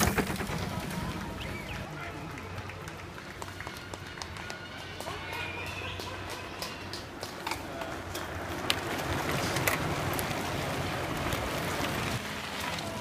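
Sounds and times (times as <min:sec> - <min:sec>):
bike tyres on cobblestones: 0:00.0 - 0:13.0
bikes clicking and rattling: 0:00.0 - 0:13.0.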